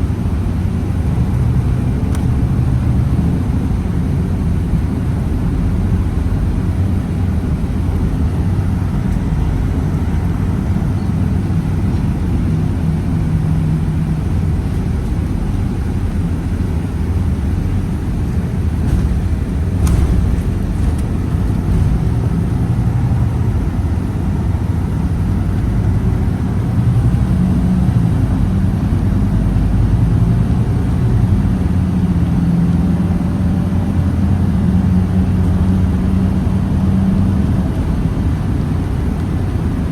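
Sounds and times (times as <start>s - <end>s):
bus engine rumbling: 0.0s - 39.9s.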